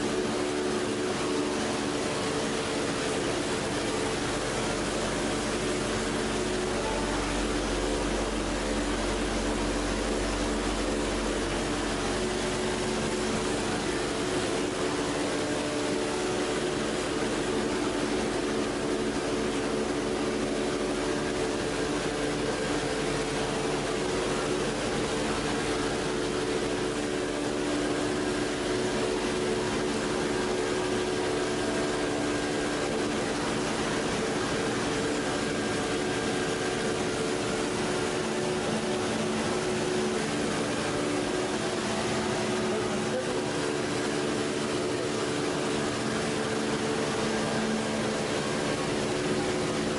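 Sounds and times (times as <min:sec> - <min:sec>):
machine hum with held tones: 0:00.0 - 0:49.9.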